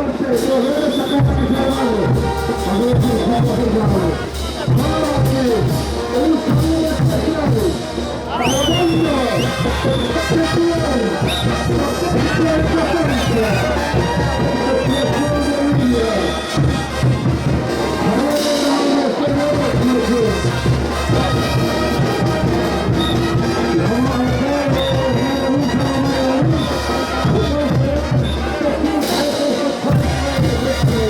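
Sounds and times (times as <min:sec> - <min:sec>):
brass band playing: 0:00.0 - 0:31.0
low drum beat: 0:01.2 - 0:31.0.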